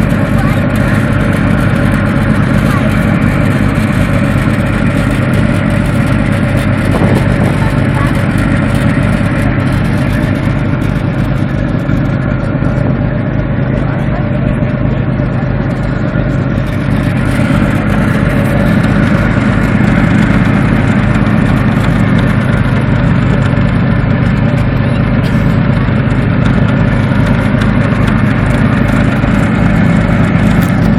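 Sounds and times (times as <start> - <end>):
motorboat engine running: 0.0 - 30.9
wind and water noise: 0.0 - 30.9.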